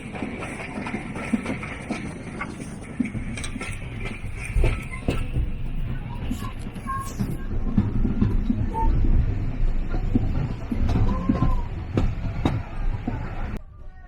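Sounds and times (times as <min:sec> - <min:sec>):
knocks and clatter: 0:00.0 - 0:13.5
railway carriage rumble: 0:00.0 - 0:14.0.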